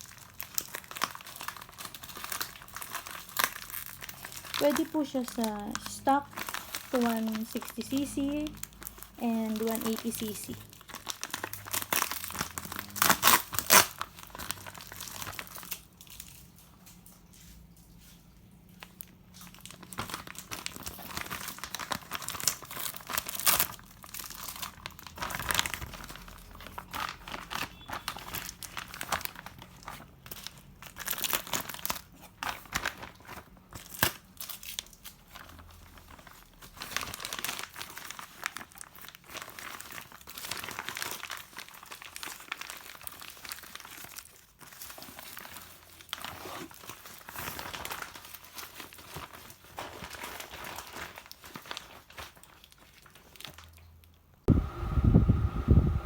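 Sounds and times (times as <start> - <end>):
packaging crinkling and tearing: 0.0 - 54.2.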